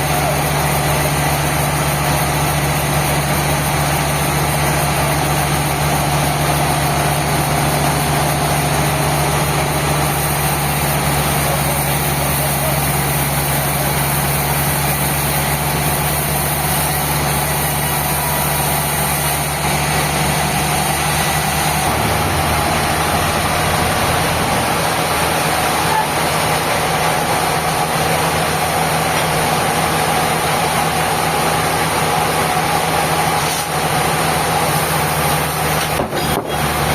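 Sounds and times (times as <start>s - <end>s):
sawmill machinery engine drone: 0.0s - 36.9s.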